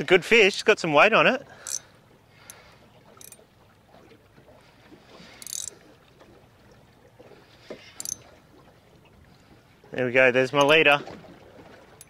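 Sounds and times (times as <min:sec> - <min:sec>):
water lapping: 0:00.0 - 0:12.0.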